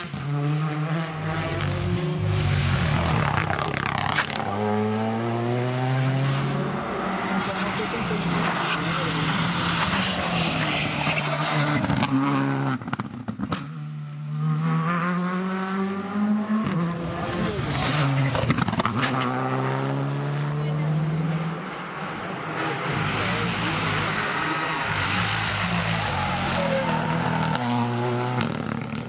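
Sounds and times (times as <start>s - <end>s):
rally car engines at full throttle: 0.0s - 29.0s.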